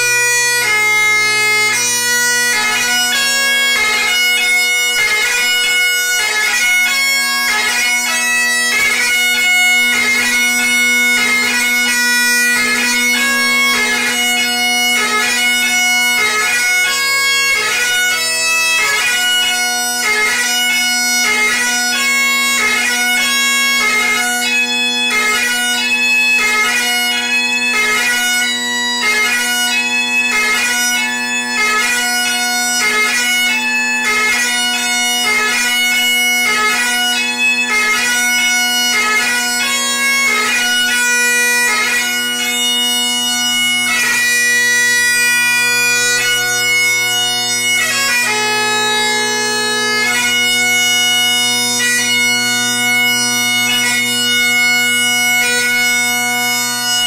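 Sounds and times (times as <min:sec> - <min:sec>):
bagpipe drone: 0:00.0 - 0:57.0
bagpipe melody: 0:00.0 - 0:57.0.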